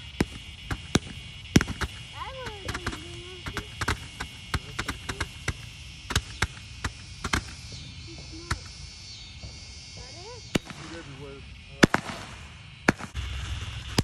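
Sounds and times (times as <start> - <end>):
firework fountain hissing: 0.0 - 14.0
sharp crackling pops: 0.0 - 14.0.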